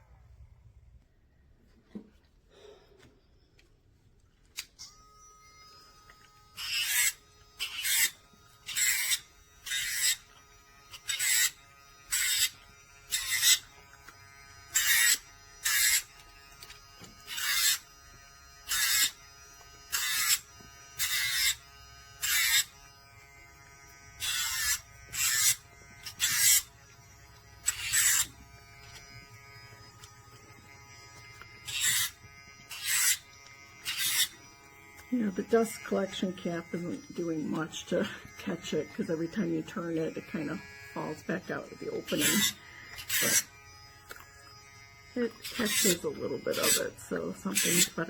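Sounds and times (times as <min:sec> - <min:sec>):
nail grinder motor whine: 0:04.8 - 0:48.0.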